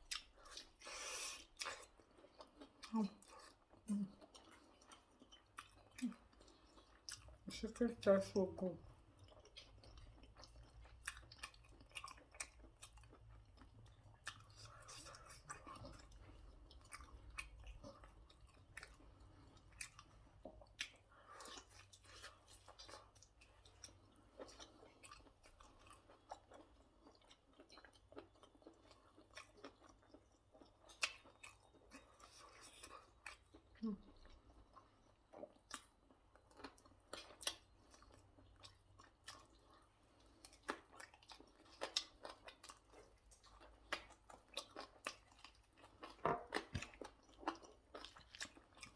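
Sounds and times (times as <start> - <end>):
person chewing food: 0.0 - 7.6, 8.8 - 48.9.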